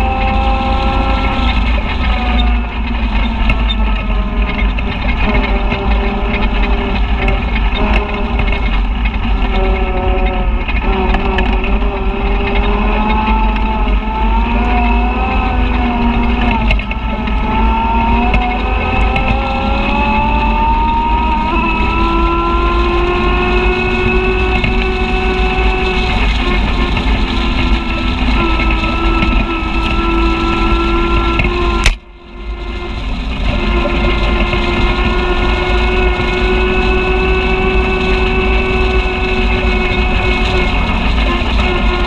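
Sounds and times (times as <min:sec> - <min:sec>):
utility vehicle engine running: 0:00.0 - 0:42.0
wind and trail rumble: 0:00.0 - 0:42.0.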